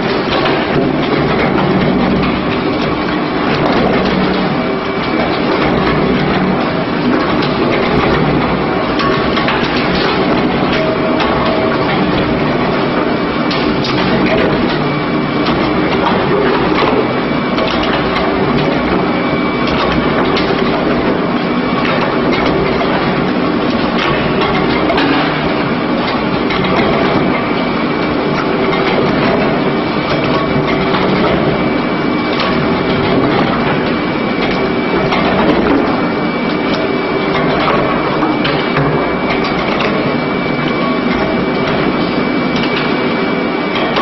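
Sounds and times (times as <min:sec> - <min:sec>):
mechanical hum: 0:00.0 - 0:44.0.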